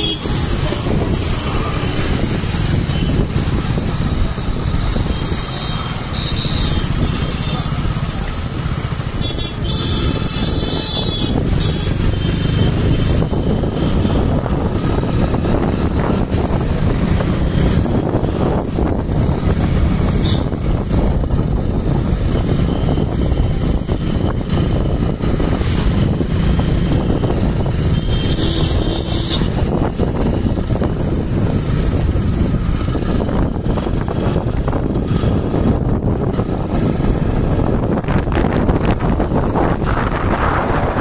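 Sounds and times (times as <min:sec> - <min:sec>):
wind buffeting microphone: 0:00.0 - 0:05.4, 0:09.9 - 0:41.0
motorbike engine and road rumble: 0:00.0 - 0:41.0.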